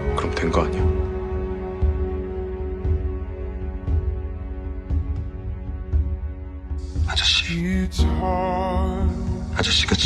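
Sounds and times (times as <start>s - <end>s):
song with soft low beat: 0.0s - 10.0s.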